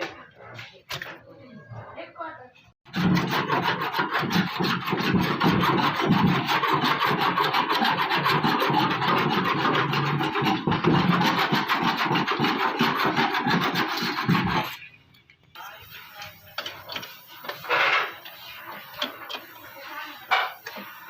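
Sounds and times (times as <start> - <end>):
sanding metal panel: 2.9 - 14.8, 15.6 - 21.0.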